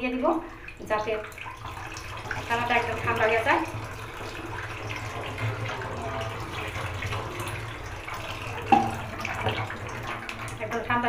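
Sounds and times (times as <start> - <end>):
low steady hum: 0.0 - 11.0
water splashing onto curds: 0.0 - 11.0.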